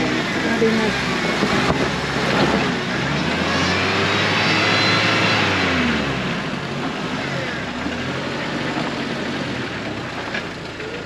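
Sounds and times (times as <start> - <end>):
vehicle engine low drone: 0.0 - 11.0.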